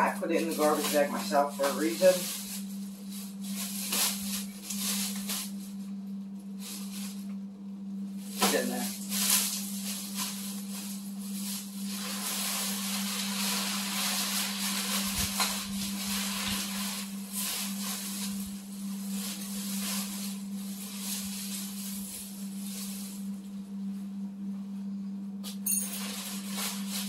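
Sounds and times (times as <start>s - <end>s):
plastic bag and fabric rustling: 0.0s - 5.9s, 6.5s - 7.4s, 8.1s - 23.8s, 25.8s - 27.0s
steady low hum: 0.0s - 27.0s.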